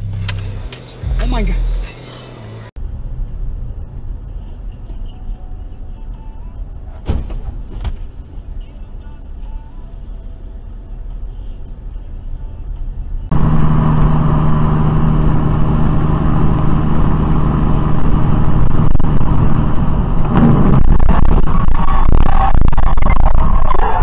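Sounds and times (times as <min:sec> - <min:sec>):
road noise inside car: 0:00.0 - 0:24.0
truck engine drone: 0:00.0 - 0:24.0.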